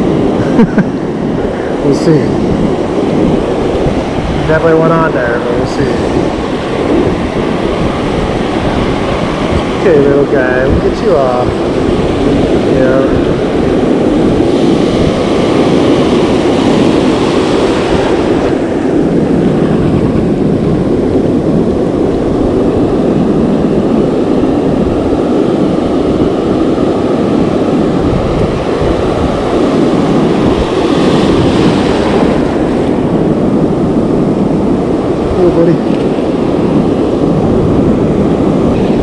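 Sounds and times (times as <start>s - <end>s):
ocean surf breaking: 0.0s - 39.0s
wind buffeting microphone: 0.0s - 39.0s.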